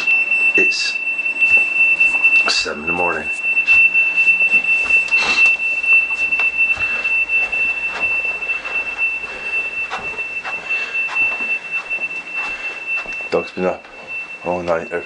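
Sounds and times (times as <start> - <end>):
smoke alarm tone: 0.0 - 15.0.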